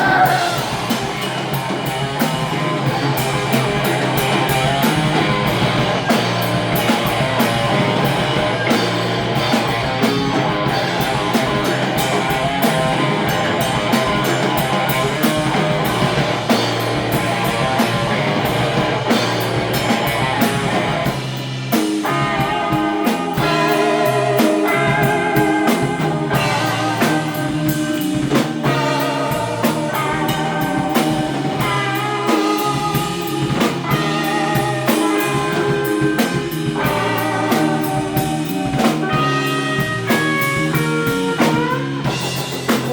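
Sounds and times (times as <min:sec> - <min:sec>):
electric guitar riff: 0:00.0 - 0:42.9
surf punk band playing: 0:00.0 - 0:42.9.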